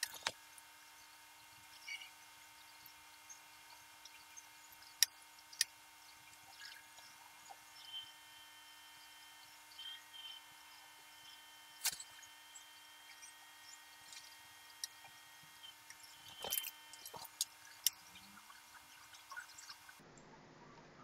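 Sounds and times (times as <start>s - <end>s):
thin electrical whine: 0.0s - 21.0s.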